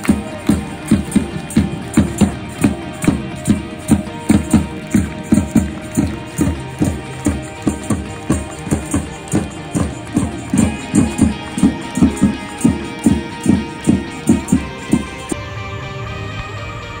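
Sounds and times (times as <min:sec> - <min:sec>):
low drum beat: 0:00.0 - 0:15.4
held pitched notes: 0:00.0 - 0:17.0.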